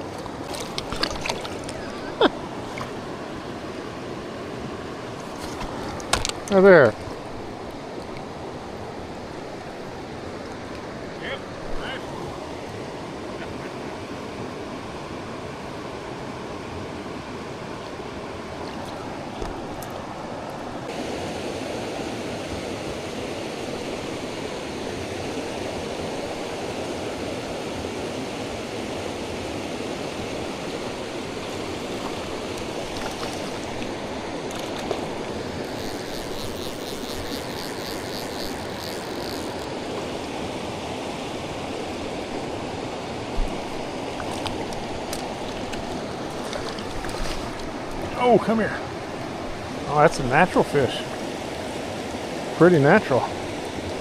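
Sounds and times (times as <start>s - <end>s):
river rushing water: 0.0s - 54.0s.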